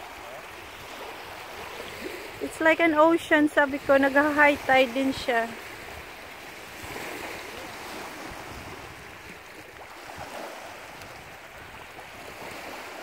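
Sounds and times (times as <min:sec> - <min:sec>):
waves lapping on pebbly shore: 0:00.0 - 0:13.0.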